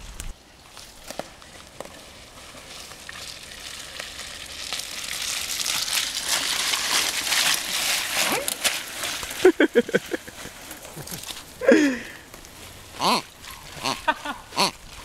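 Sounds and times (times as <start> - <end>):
bike rolling through leaves: 0.0 - 15.0.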